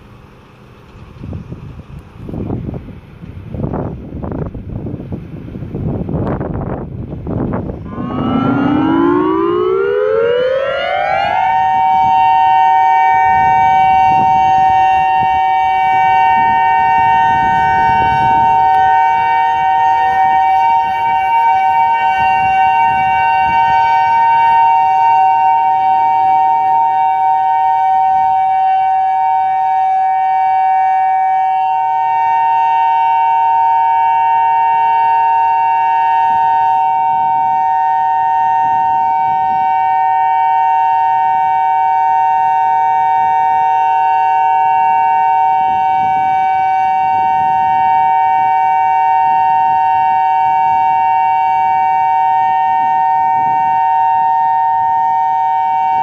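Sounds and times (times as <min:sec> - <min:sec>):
warning siren two-note chord: 0:07.8 - 0:56.0.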